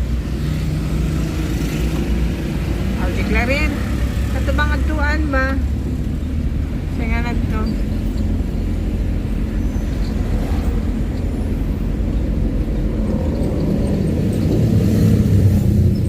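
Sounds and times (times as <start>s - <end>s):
moving vehicle rumble: 0.0s - 16.0s.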